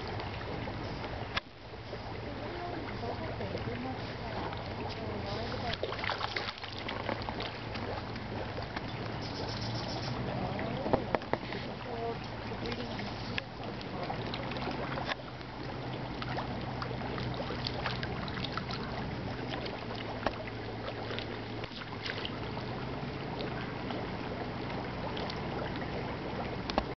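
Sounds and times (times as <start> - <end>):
low hum: 0.0 - 26.9
ducks dabbling splashes: 0.0 - 27.0
water lapping: 0.0 - 27.0.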